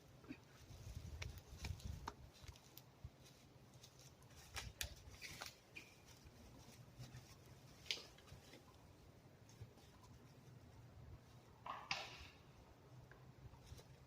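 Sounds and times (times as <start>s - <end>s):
faint crackles and clicks: 0.6s - 12.0s.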